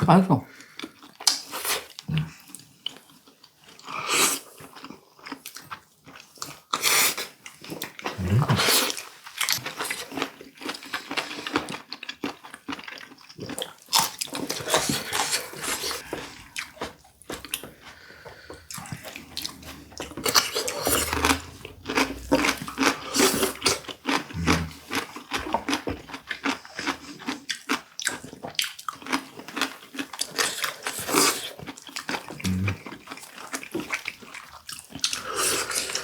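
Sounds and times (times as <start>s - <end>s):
people chewing meat: 0.5s - 36.0s.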